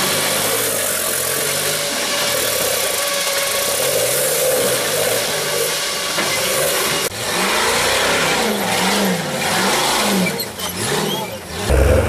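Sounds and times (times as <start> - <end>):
buggy engine revving: 0.0 - 12.0
engine revving in surges: 0.0 - 12.0.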